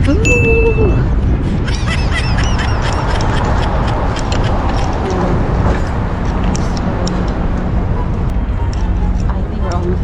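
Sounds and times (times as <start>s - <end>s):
faint street noise: 0.0s - 10.0s
wind buffeting microphone: 0.0s - 10.0s.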